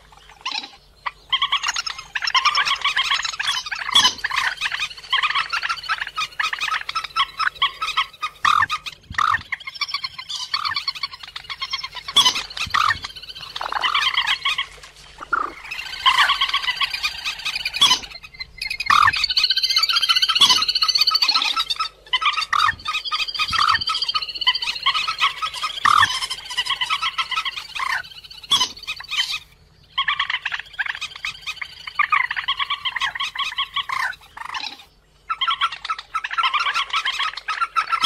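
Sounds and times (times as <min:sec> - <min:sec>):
waterbird calling rapidly: 0:00.0 - 0:38.0.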